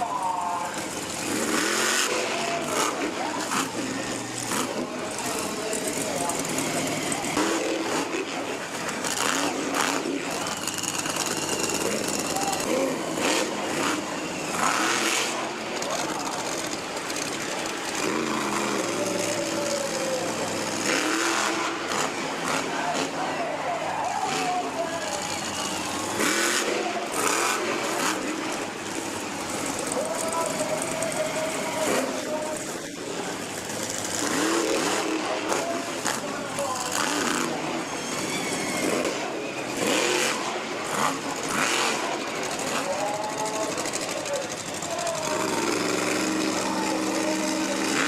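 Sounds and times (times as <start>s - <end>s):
monster truck engine revving: 0.0s - 48.0s.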